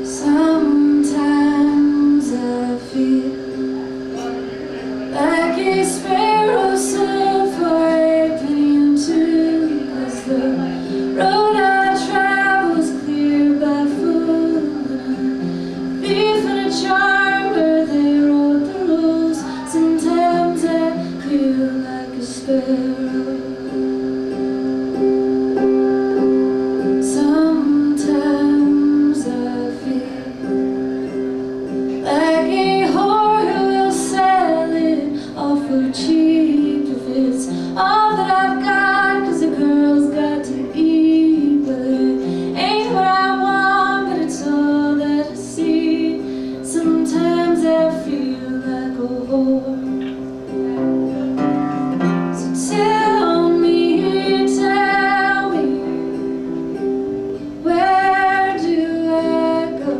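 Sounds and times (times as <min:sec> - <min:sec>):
woman singing: 0:00.0 - 0:04.1, 0:04.9 - 0:24.9, 0:26.8 - 0:50.8, 0:52.0 - 0:59.9
acoustic guitar: 0:00.0 - 0:59.9
lap guitar: 0:00.0 - 0:59.9.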